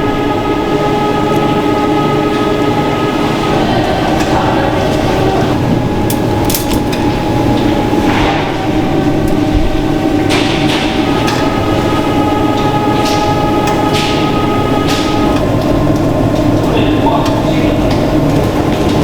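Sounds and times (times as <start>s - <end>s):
factory machinery humming: 0.0s - 19.0s
high machine whine: 0.0s - 19.0s.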